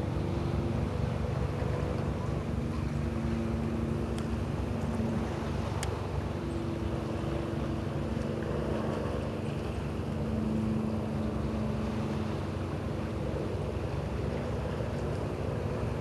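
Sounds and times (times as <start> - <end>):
constant rushing noise: 0.0 - 16.0
low mechanical hum: 0.0 - 16.0.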